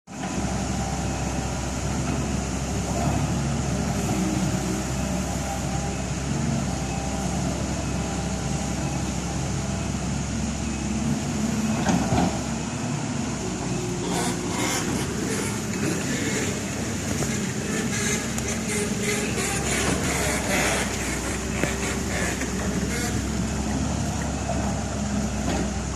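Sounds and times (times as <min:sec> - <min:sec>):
excavator diesel engine running: 0:00.1 - 0:25.9.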